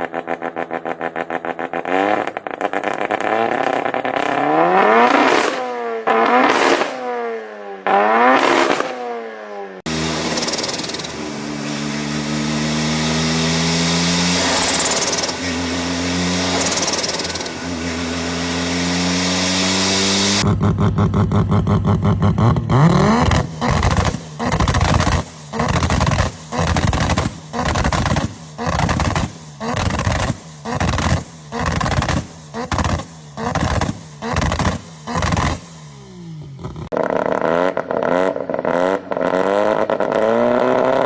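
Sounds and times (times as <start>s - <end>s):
rotary engine exhaust idling and revving: 0.0s - 41.0s.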